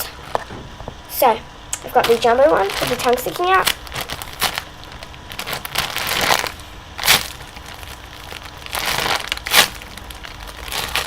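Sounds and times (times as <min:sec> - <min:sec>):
sharp crackles: 0:01.8 - 0:11.0
squishy toy rustling: 0:01.9 - 0:11.0.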